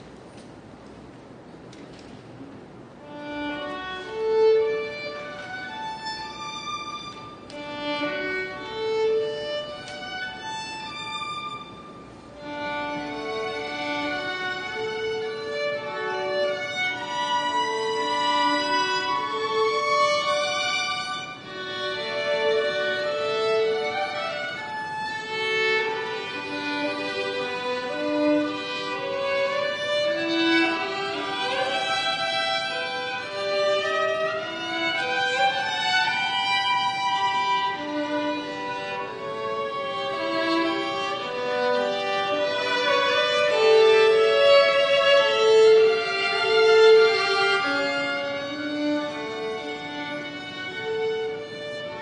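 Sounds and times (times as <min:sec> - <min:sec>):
violin playing slow melody: 0:02.9 - 0:52.0.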